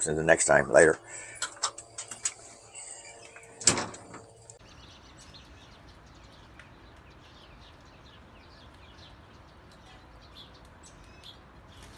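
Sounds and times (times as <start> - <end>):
faint bird chirping: 1.0 - 11.9.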